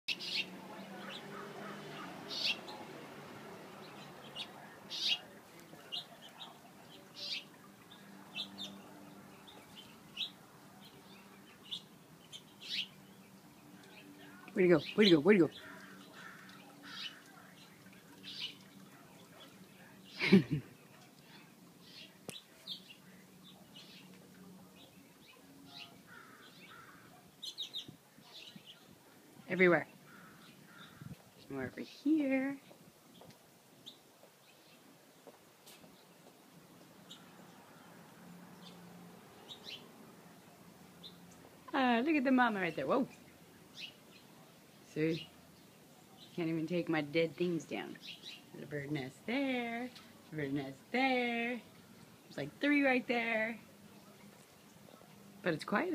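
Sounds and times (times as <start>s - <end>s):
small birds chirping: 0.1s - 55.9s.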